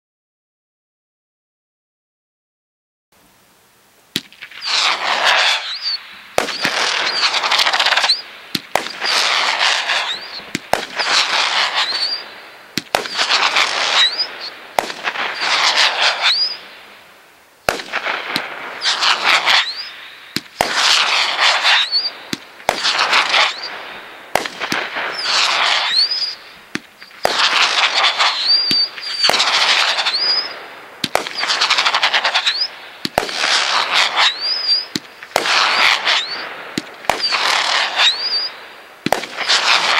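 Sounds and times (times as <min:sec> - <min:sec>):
firework launch reports: 0:04.1 - 0:39.9
shrill rising firework whistle: 0:04.4 - 0:16.8, 0:17.7 - 0:39.9.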